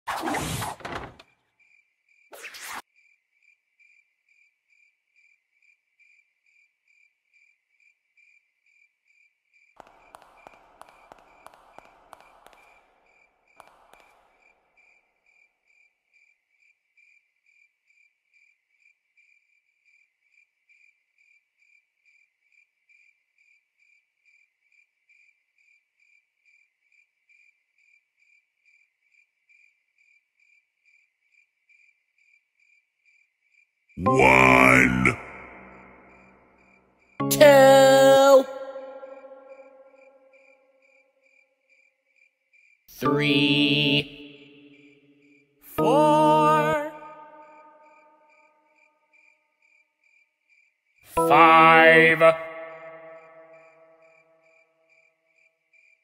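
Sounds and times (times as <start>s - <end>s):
faint cricket chirping: 1.2s - 34.0s, 37.8s - 42.9s, 44.3s - 45.6s, 47.0s - 51.2s, 52.7s - 56.0s.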